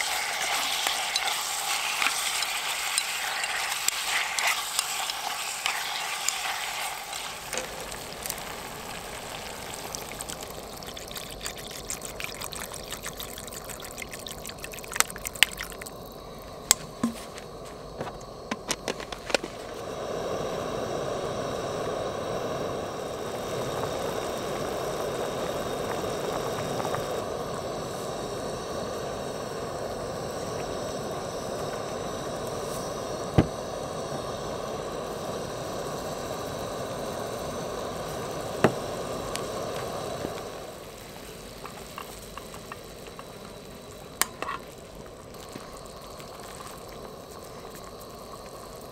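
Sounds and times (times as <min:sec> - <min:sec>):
meat sizzling in oil: 0:00.0 - 0:16.3, 0:19.8 - 0:48.9
pot of water boiling: 0:00.0 - 0:48.9.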